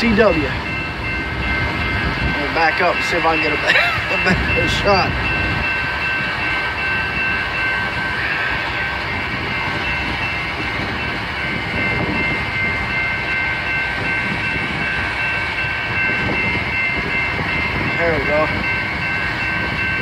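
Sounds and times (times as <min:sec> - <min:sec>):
freight train rumbling: 0:00.0 - 0:20.0.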